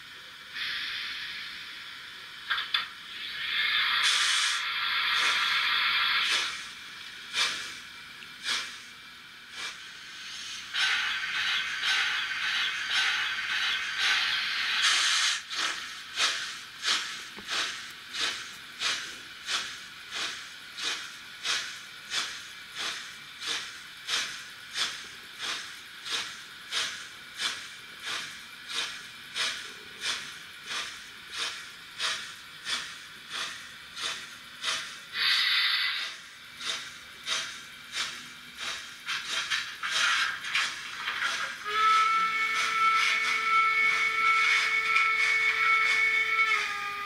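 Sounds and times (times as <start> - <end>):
steam locomotive chuffs: 0.0 - 47.0
steam hiss: 0.5 - 47.0.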